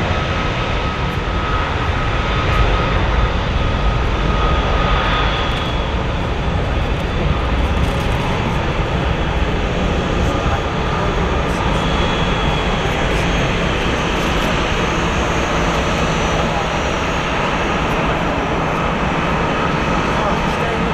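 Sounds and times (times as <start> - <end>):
jet engines at takeoff thrust: 0.0 - 20.9.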